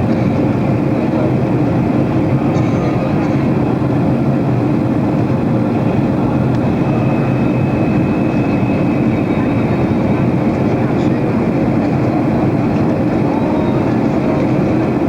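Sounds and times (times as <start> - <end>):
airliner engine and airflow rush: 0.0 - 15.0
faint steady whine: 0.0 - 15.0.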